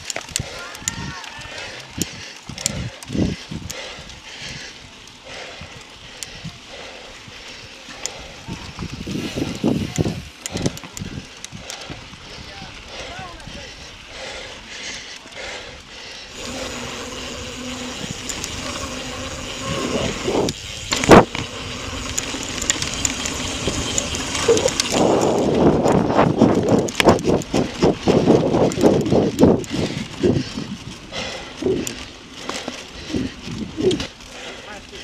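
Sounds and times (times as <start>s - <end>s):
bike rattling over rough ground: 0.0s - 35.0s
wind and tyre noise: 0.0s - 35.0s.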